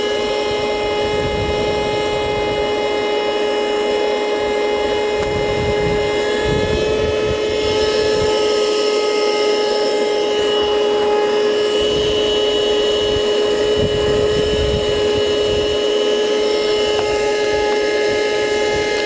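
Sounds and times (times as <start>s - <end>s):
handheld vacuum whining: 0.0s - 19.0s
vacuum nozzle on carpet mat: 0.0s - 19.0s.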